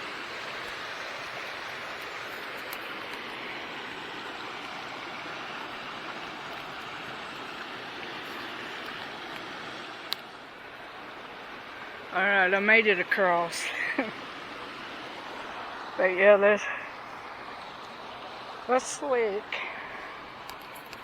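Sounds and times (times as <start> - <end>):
creek water running over rocks: 0.0 - 21.0.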